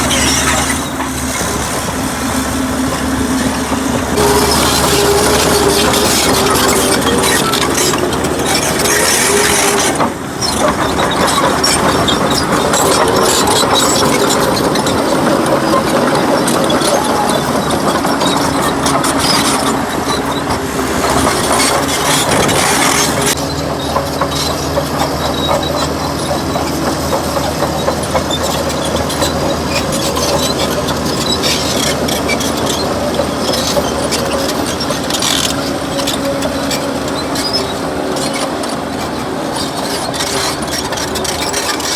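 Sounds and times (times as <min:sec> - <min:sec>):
crawler tracks clanking: 0:00.0 - 0:41.9
heavy diesel engine under load: 0:00.0 - 0:41.9.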